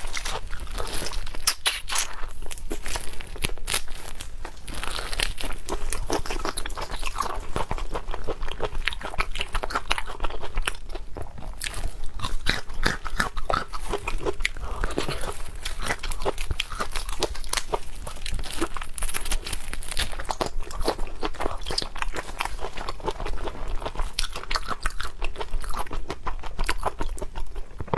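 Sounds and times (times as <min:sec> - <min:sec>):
chewing and biting food: 0:00.0 - 0:27.9.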